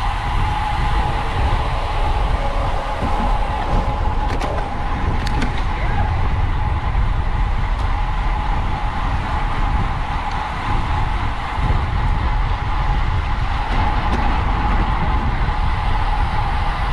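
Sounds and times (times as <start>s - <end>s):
constant whine: 0.0s - 16.9s
wind buffeting microphone: 0.0s - 16.9s.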